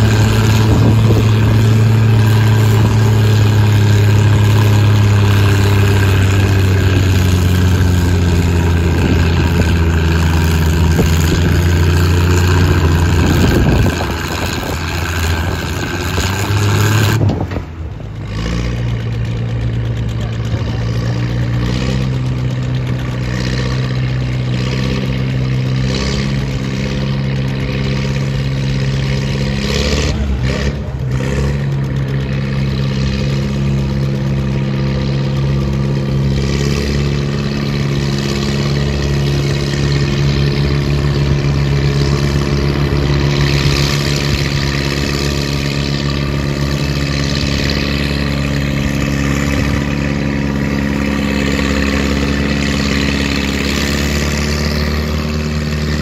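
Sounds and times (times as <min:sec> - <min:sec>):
deep rumble: 0:00.0 - 0:56.0
tractor engine under load: 0:00.0 - 0:56.0.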